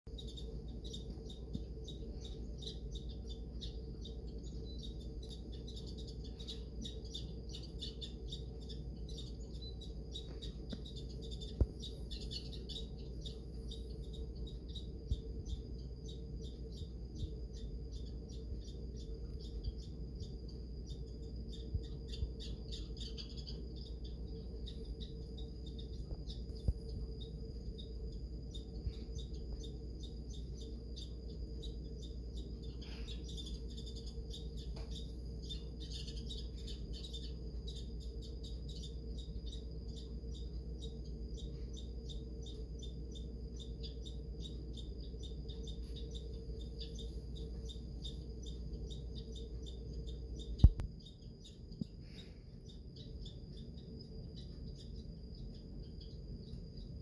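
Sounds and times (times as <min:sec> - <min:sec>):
steady low hum: 0:00.0 - 0:57.0
squirrel chattering: 0:00.1 - 0:51.6.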